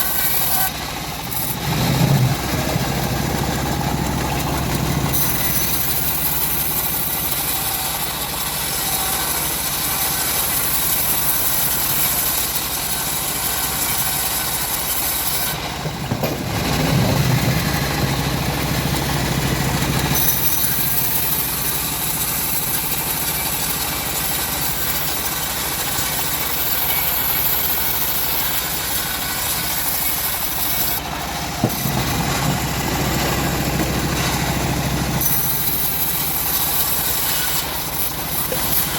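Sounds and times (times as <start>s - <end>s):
bandsaw mill machine drone: 0.0s - 38.9s.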